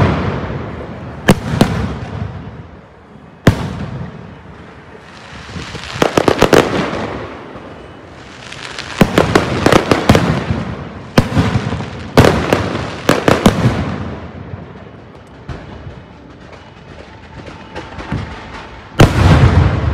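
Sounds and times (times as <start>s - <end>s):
fireworks bursting with sharp bangs: 0.0s - 19.9s.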